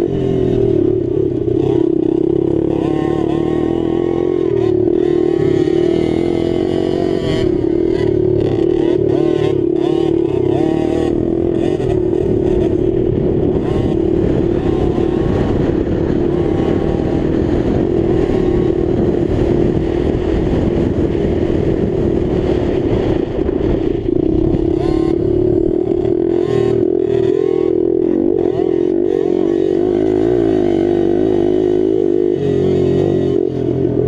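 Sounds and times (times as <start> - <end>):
dirt bike engine revving: 0.0 - 34.0
rough wind noise: 0.0 - 34.0.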